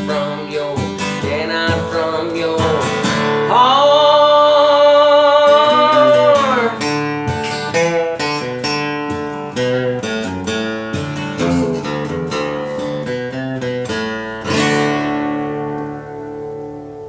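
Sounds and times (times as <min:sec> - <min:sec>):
person singing country song: 0:00.0 - 0:16.5
acoustic guitar picking notes: 0:00.0 - 0:17.0.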